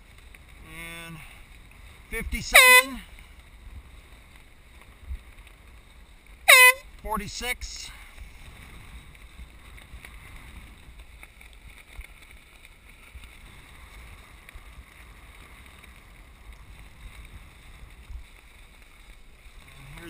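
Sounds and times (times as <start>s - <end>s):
wind rumble on microphone: 0.0s - 20.0s
choppy water: 1.3s - 20.0s.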